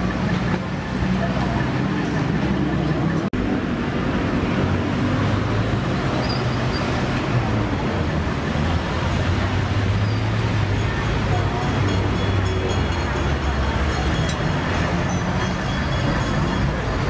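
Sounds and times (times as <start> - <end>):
low hum of traffic: 0.0 - 17.0.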